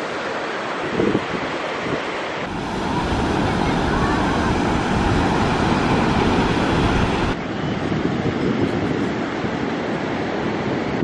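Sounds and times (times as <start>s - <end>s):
surf washing on beach: 0.0s - 11.0s
wind buffeting microphone: 0.8s - 11.0s.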